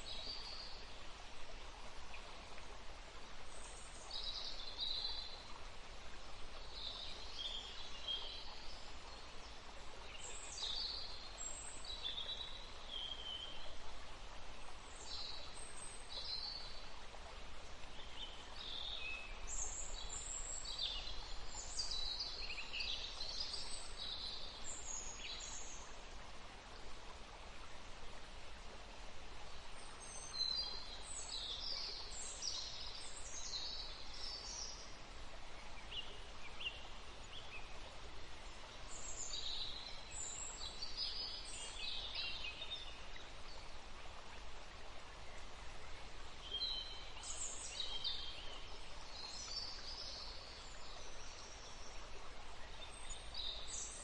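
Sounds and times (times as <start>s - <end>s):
forest stream running: 0.0s - 54.0s.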